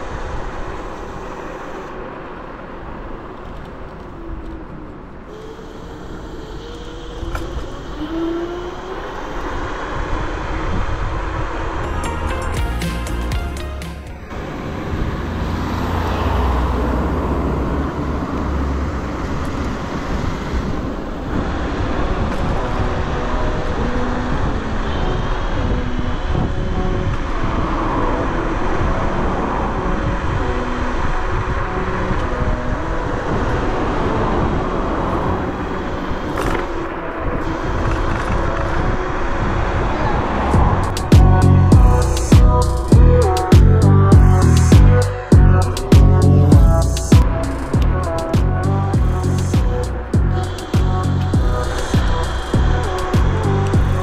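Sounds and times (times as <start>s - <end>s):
wind rushing over microphone: 0.0s - 12.8s, 14.0s - 54.0s
faint music: 0.0s - 54.0s
road noise: 0.0s - 54.0s.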